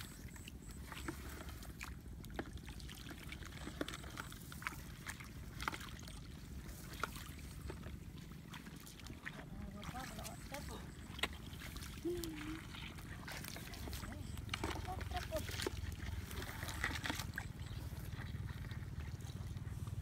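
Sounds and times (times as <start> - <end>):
feet sloshing through water: 0.0 - 20.0.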